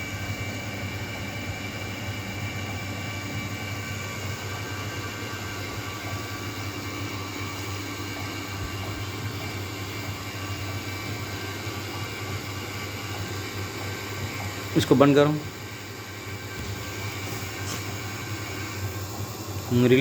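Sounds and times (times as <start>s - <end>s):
vacuum pump humming: 0.0s - 20.0s.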